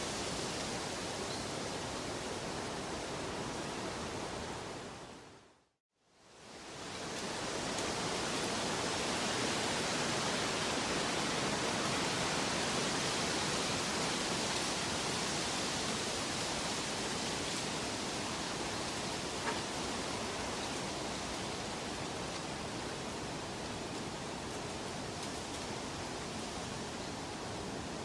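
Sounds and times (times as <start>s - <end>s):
rushing water: 0.0s - 5.5s, 6.2s - 28.0s.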